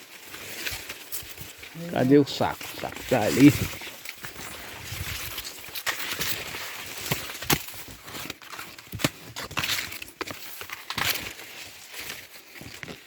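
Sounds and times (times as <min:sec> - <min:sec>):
dry cornstalks rustling: 0:00.0 - 0:13.0.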